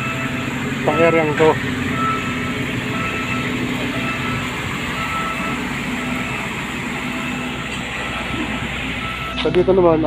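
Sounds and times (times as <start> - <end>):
engine drone: 0.0 - 10.0
street traffic: 0.0 - 10.0.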